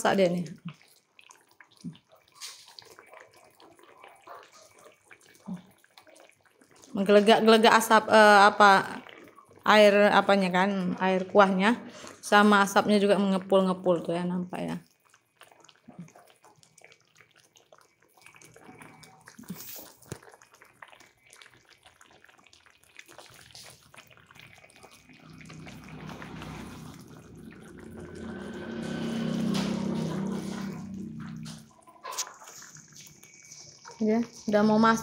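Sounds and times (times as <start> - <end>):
gravy bubbling in a wok: 0.0 - 35.0.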